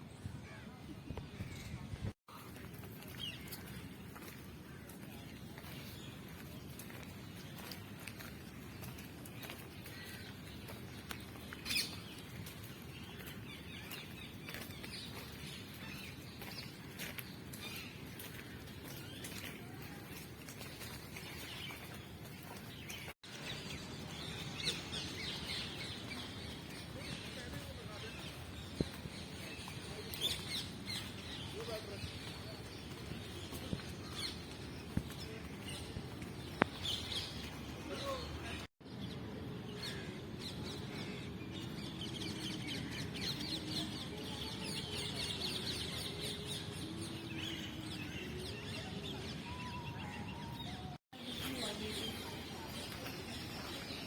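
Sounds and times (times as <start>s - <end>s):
low outdoor background noise: 0.0s - 54.0s
small birds chirping: 1.1s - 54.0s.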